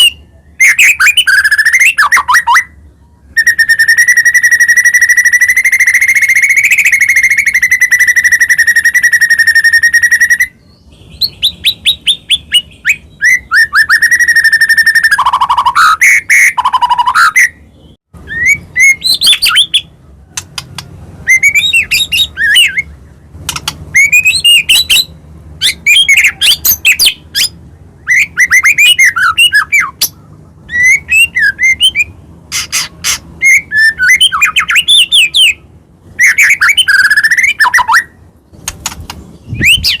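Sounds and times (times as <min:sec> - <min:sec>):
bird singing: 0:00.0 - 0:40.0.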